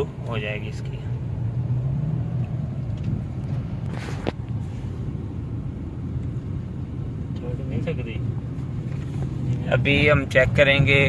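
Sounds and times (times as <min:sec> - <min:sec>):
car drone inside cabin: 0:00.0 - 0:11.0.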